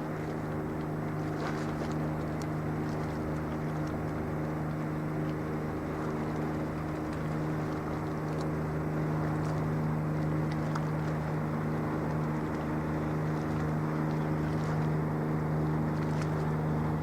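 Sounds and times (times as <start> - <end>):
ship engine droning: 0.0 - 17.0
wind: 0.0 - 17.0.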